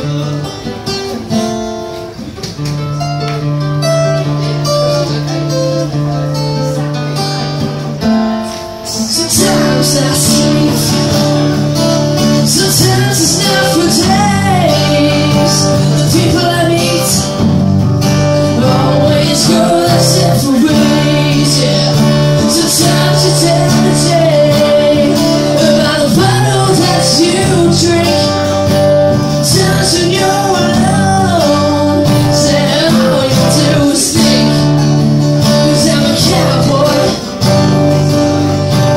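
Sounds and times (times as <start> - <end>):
acoustic guitar strumming chords: 0.0 - 38.9
person singing into microphone: 6.8 - 38.9.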